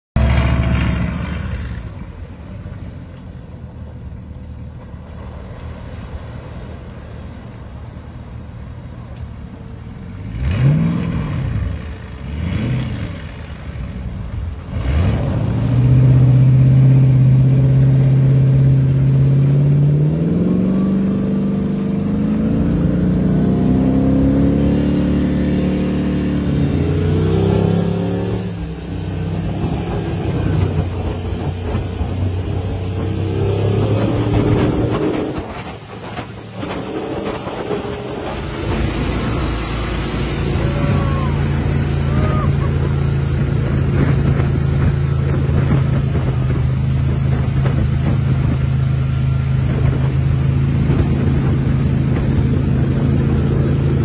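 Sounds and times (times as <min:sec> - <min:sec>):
car engine revving: 0:10.2 - 0:54.0.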